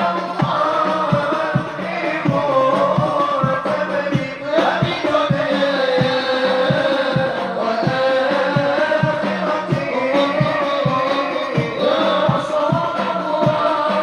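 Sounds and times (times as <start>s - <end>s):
group singing devotional melody: 0.0s - 14.0s.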